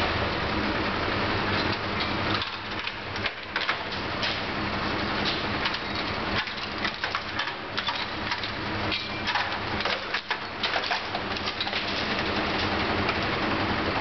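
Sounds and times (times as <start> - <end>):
truck engine humming: 0.0 - 14.0.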